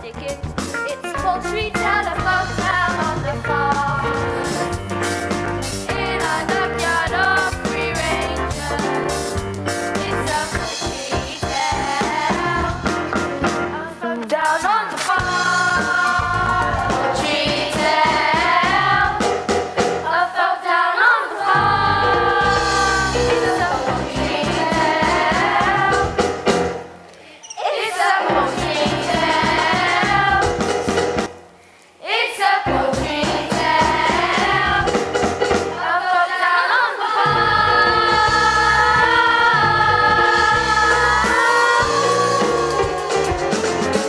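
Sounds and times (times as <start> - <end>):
instrumental backing: 0.0 - 20.2, 21.5 - 27.2, 32.7 - 36.0, 37.2 - 44.0
choir singing a show tune: 0.8 - 31.2, 32.0 - 44.0.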